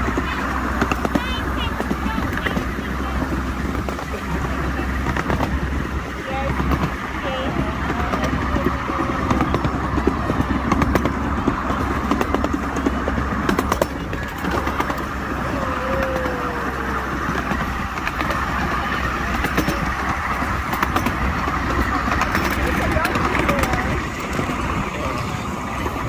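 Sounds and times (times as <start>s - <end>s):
miniature train wheels rumbling: 0.0s - 26.0s
wheels clicking on rails: 0.0s - 26.0s.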